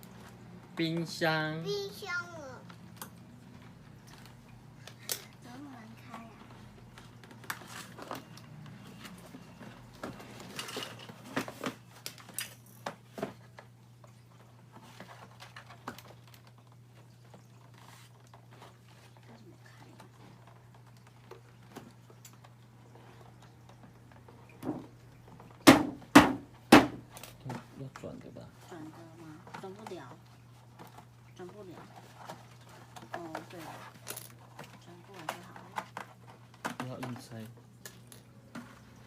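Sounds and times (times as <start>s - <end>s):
hands handling plastic packaging: 2.6s - 25.7s, 26.7s - 39.0s.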